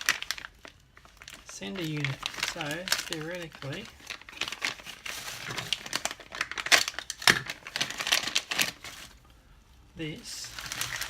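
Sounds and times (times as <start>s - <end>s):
plastic packaging crinkling: 0.0s - 9.2s, 10.4s - 11.0s.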